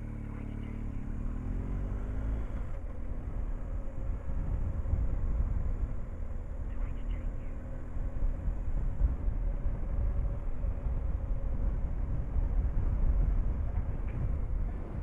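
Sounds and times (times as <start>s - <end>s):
motorcycle engine drone: 0.0s - 15.0s
wind buffeting microphone: 2.6s - 15.0s.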